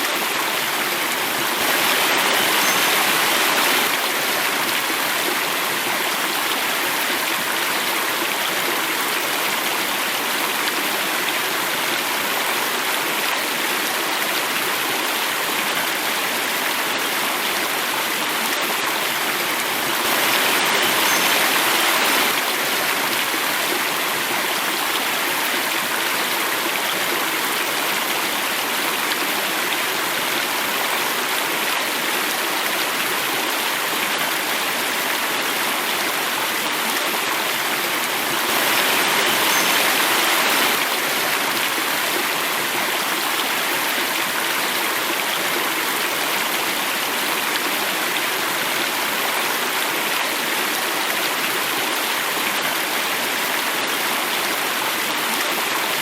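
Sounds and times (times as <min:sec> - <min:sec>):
water falling in a cascade: 0:00.0 - 0:56.0.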